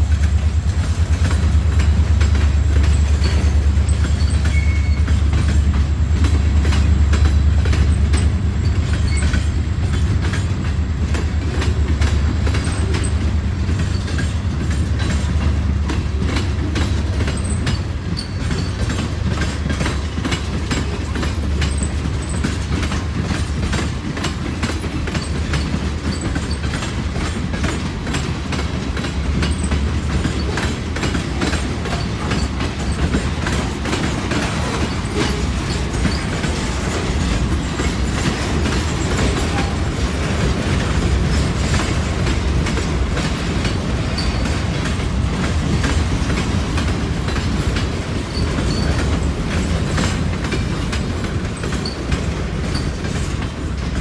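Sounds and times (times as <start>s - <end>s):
wheels clicking over rail joints: 0.0s - 54.0s.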